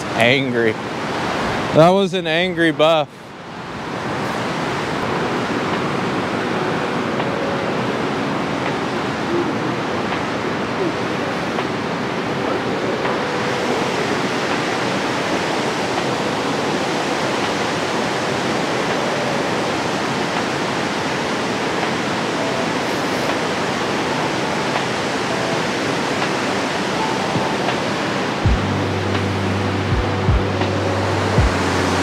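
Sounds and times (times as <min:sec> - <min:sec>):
water roaring through spillway: 0:00.0 - 0:32.0.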